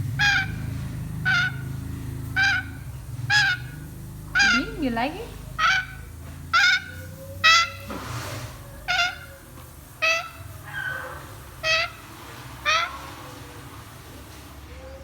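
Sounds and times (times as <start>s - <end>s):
parrot calling: 0.0s - 13.8s.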